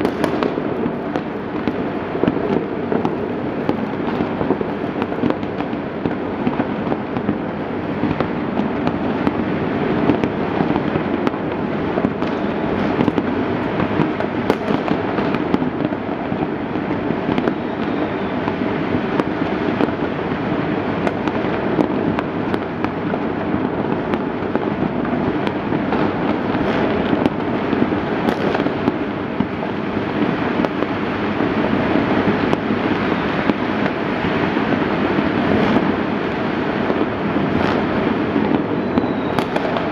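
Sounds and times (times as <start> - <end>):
firecrackers and fireworks popping: 0.0 - 39.9.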